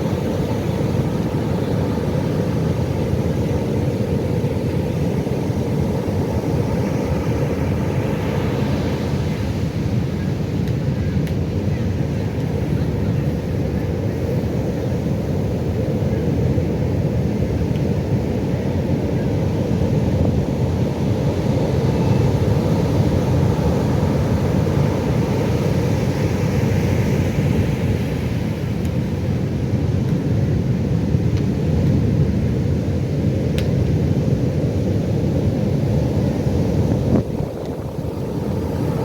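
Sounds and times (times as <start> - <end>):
low rumble of ocean waves: 0.0 - 39.0.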